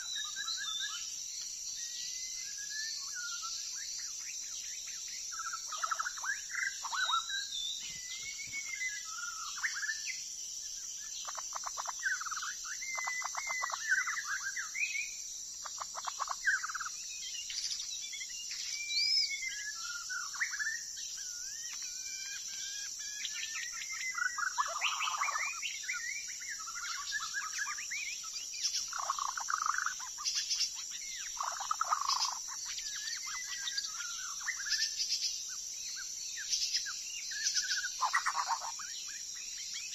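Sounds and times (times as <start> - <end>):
bird singing: 0.0 - 39.9
high insect drone: 0.0 - 39.9.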